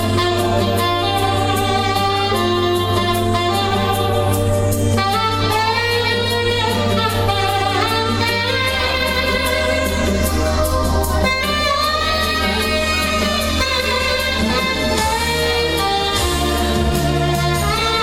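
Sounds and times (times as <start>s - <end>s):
held bass line: 0.0s - 18.0s
light steady beat: 0.0s - 18.0s
saxophone melody: 0.0s - 18.0s.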